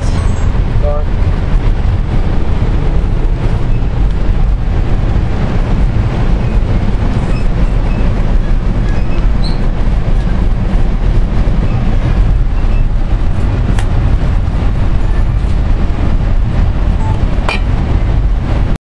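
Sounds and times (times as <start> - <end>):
train rumbling: 0.0 - 18.8.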